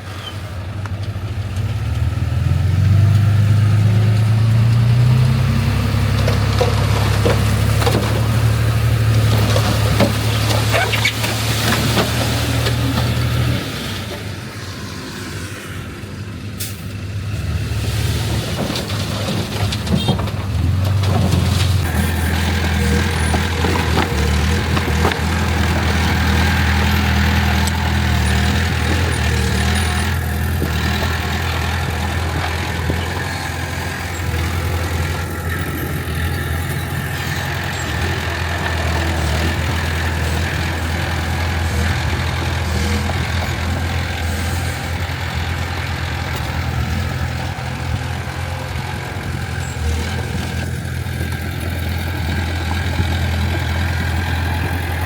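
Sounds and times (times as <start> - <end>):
diesel machinery engine hum: 0.0 - 55.0.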